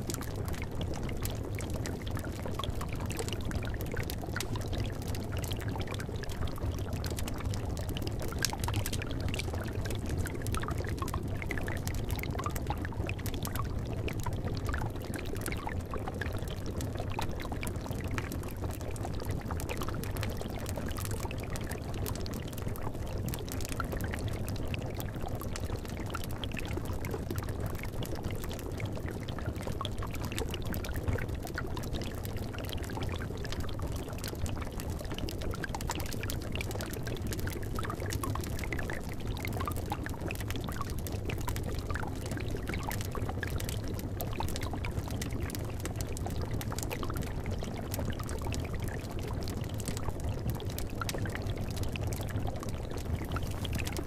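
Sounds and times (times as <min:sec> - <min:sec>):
liquid bubbling in a cauldron: 0:00.0 - 0:54.0.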